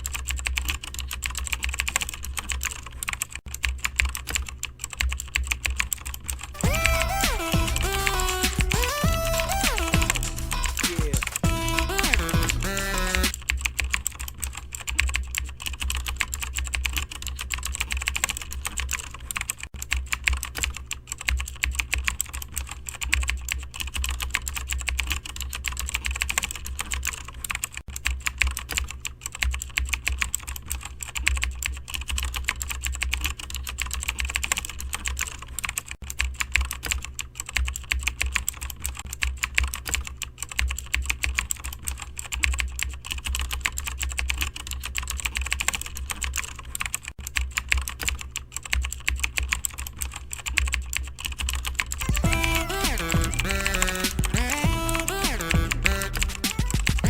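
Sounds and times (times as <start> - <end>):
rapid typing on keyboard: 0.0 - 57.0.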